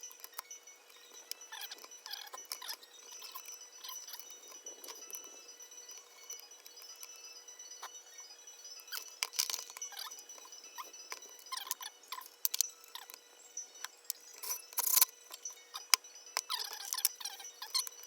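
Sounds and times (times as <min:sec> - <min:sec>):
small hard parts clicking and clinking: 0:00.0 - 0:18.0.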